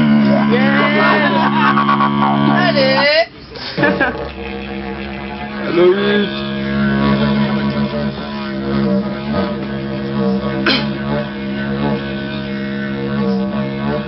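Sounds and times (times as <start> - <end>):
didgeridoo drone: 0.0 - 14.0.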